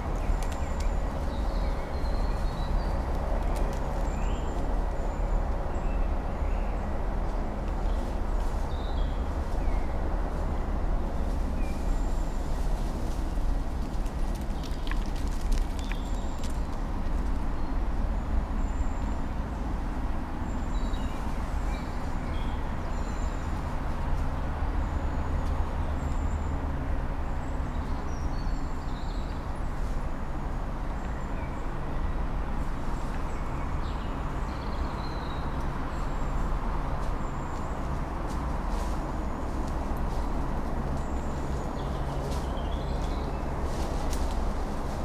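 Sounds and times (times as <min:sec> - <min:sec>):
birds chirping: 0:00.0 - 0:16.8, 0:17.4 - 0:45.0
steady low rumble: 0:00.0 - 0:45.0.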